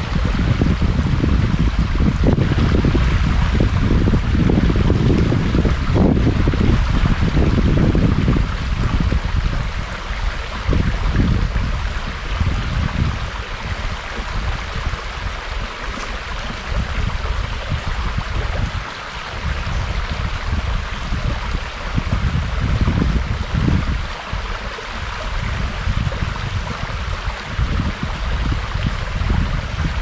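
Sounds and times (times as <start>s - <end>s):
running water: 0.0s - 30.0s
wind buffeting microphone: 0.0s - 30.0s.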